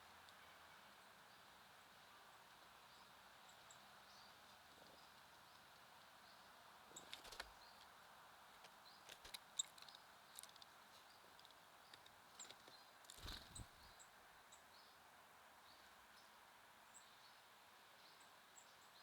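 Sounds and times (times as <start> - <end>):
low outdoor hiss: 0.0 - 19.0
songbird chirps: 0.1 - 19.0.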